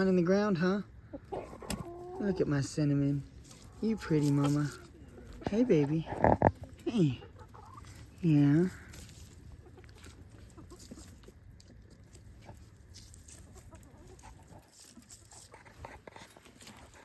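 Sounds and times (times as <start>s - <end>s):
hens clucking: 0.4s - 17.0s.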